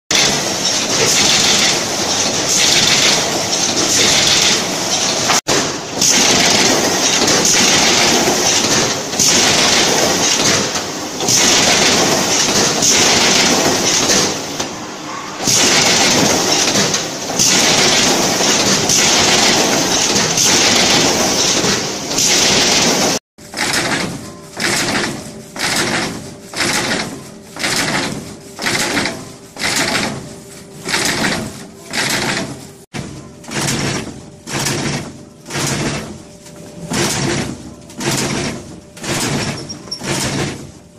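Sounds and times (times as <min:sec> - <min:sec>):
stitching machine clattering: 0:00.1 - 0:14.7, 0:15.4 - 0:40.9.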